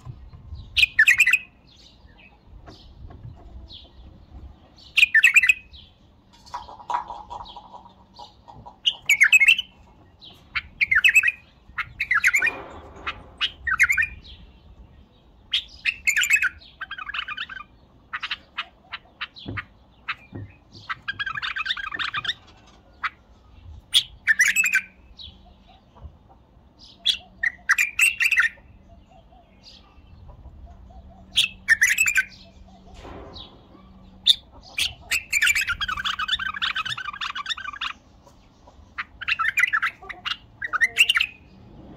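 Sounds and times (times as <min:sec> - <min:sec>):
bird singing: 0:00.0 - 0:41.7.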